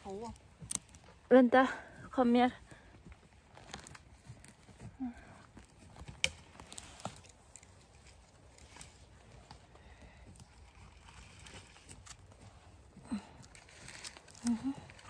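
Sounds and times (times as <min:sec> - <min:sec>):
rustling of forest litter: 0:00.0 - 0:15.0.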